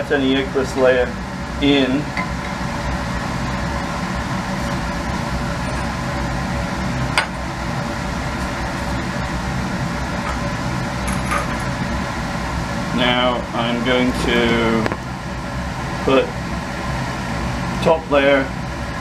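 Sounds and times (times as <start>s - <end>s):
ventilation hum and rush: 0.0s - 19.0s.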